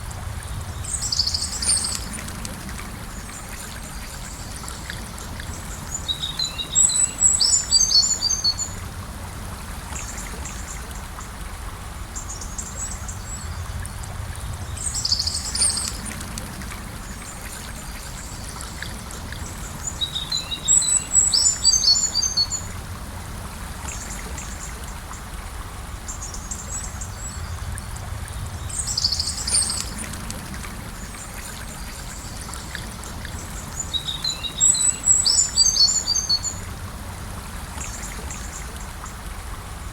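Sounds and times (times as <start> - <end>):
river flowing gently: 0.0 - 39.9.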